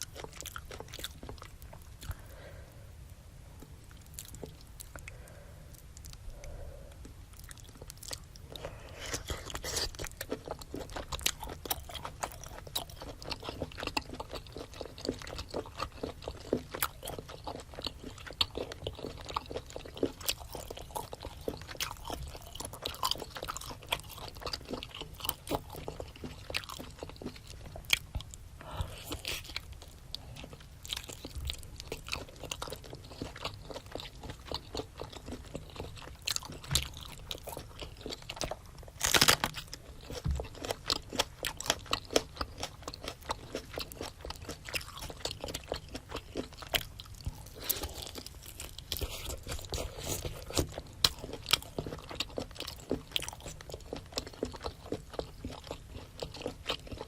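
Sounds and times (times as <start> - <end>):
person chewing crunchy food: 0.0 - 2.8, 3.6 - 57.0.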